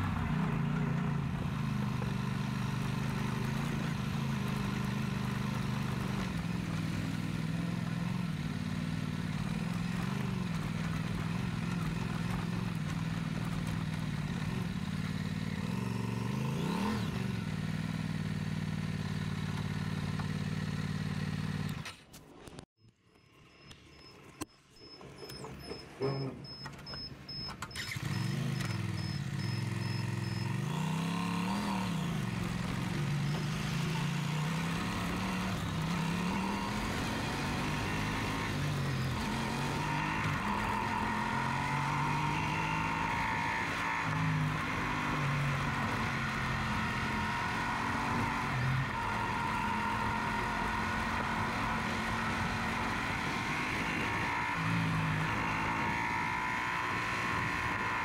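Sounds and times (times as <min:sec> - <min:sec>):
motorcycle engine: 0:00.0 - 0:22.1, 0:27.5 - 0:58.0.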